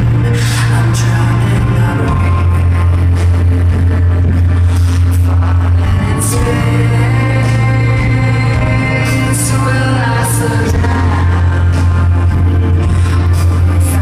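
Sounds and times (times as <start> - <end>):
drums with cymbal hits: 0.0 - 14.0
heavy bass note: 0.0 - 14.0
keyboards: 0.0 - 14.0
person singing: 0.0 - 14.0.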